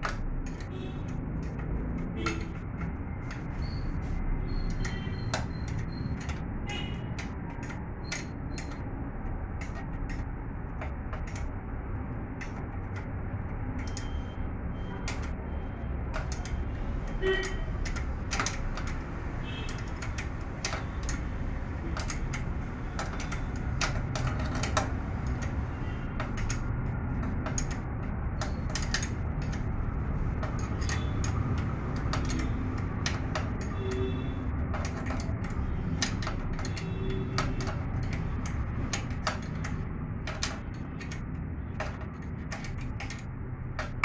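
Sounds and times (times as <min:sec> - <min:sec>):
spanner clicking against metal: 0:00.0 - 0:44.0.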